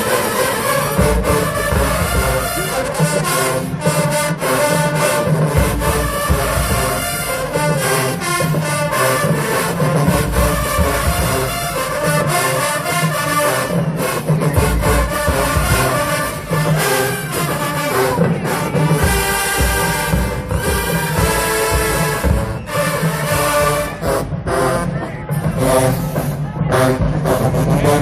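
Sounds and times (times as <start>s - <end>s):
marching band brass: 0.0s - 28.0s
heavy drum beat: 0.9s - 28.0s.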